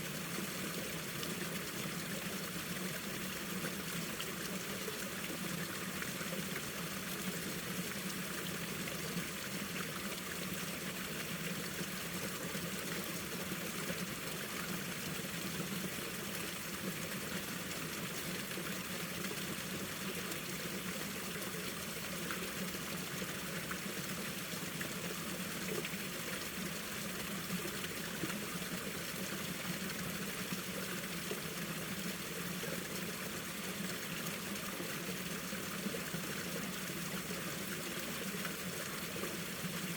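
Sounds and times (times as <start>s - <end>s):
stream water trickling over rocks: 0.0s - 39.9s.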